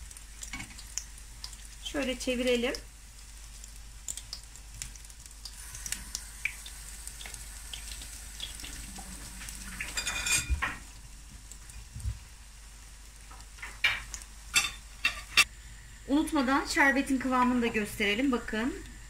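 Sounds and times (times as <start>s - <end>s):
dough frying in hot oil: 0.0s - 19.0s.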